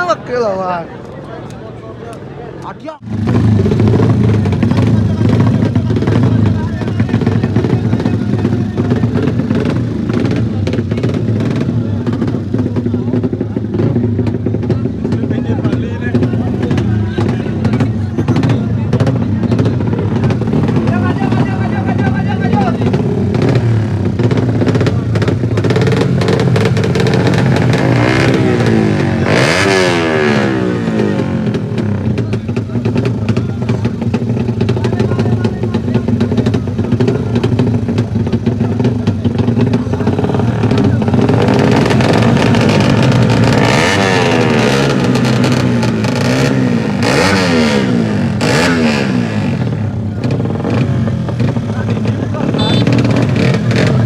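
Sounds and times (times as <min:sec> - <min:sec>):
racing motorcycle engines revving: 0:00.0 - 0:54.0.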